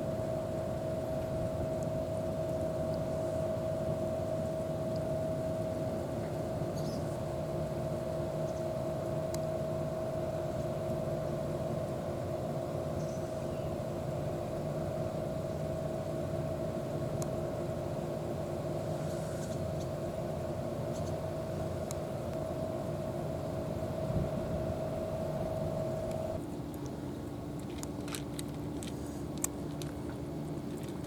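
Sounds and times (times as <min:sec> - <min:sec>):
steady engine-like hum: 0:00.0 - 0:31.0.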